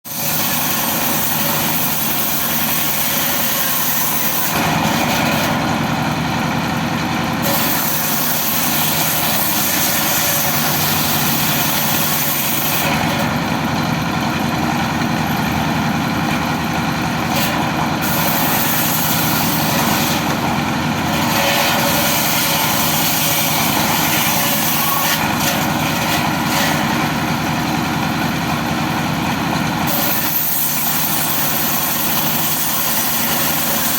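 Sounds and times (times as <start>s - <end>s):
motor-driven saw cutting wood: 0.1s - 33.9s.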